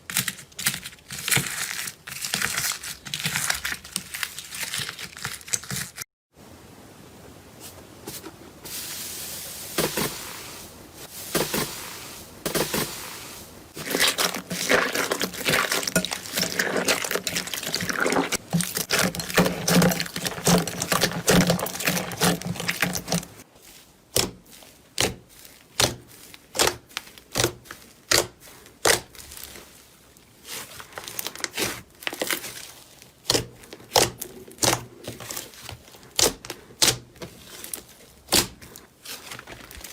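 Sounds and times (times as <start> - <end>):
slime crackling and squishing: 0.0 - 6.0, 8.7 - 39.9.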